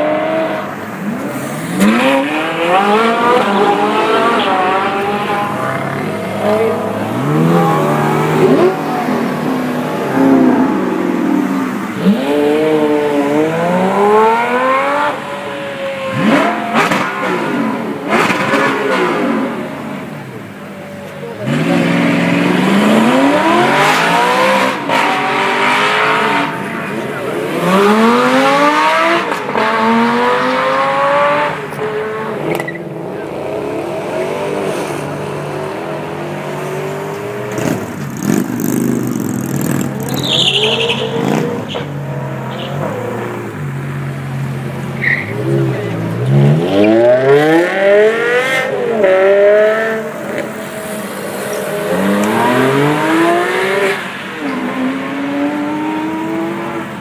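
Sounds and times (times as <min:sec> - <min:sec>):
cars accelerating hard: 0:00.0 - 0:57.0
engines idling and revving: 0:00.0 - 0:57.0.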